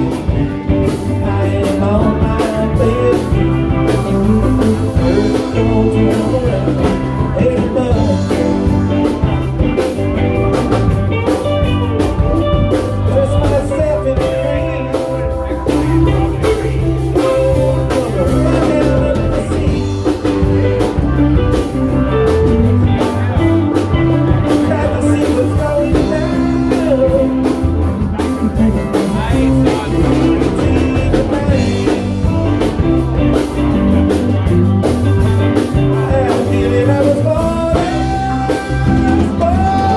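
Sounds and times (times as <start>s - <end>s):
drum kit beat: 0.0s - 39.9s
electric guitar: 0.0s - 39.9s
live blues-rock band playing: 0.0s - 39.9s.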